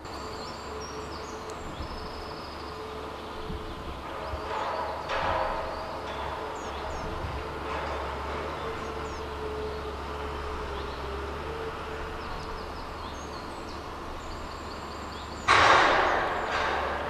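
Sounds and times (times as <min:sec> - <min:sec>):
small birds chirping: 0:00.0 - 0:16.4
forestry harvester drone: 0:00.0 - 0:17.0.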